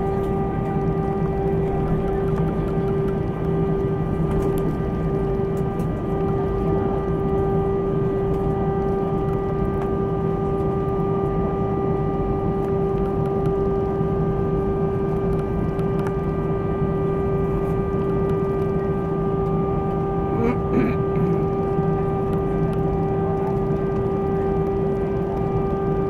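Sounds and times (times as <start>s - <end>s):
jet engines idling whine: 0.0s - 26.0s.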